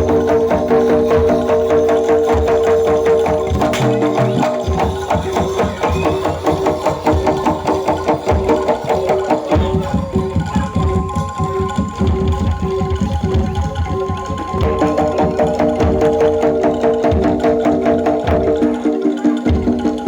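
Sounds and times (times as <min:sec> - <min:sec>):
ensemble music with fast drumming: 0:00.0 - 0:20.0.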